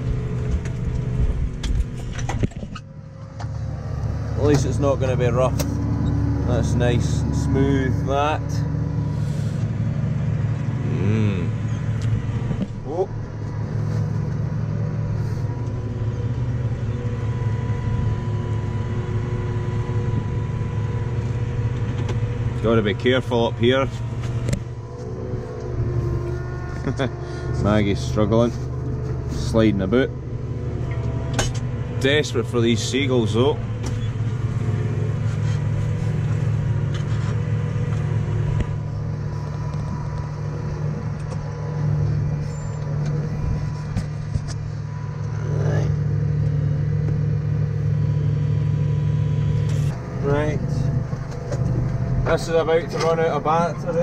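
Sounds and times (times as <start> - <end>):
tractor engine running under load: 0.0 - 54.0
faint steady whine: 0.8 - 54.0.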